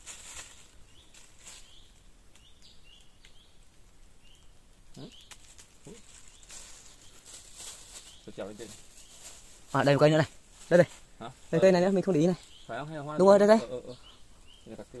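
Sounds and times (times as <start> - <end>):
bird chirping: 0.4 - 15.0.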